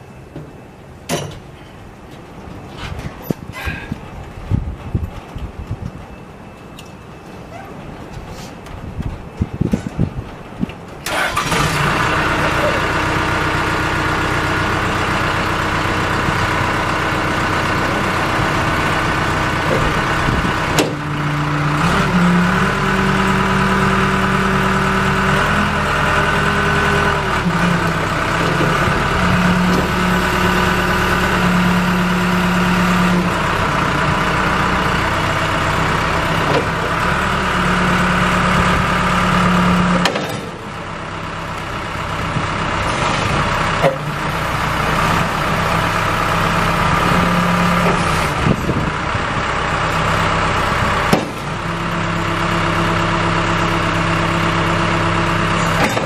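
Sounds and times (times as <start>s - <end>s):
diesel engine idling and revving: 8.8s - 56.0s.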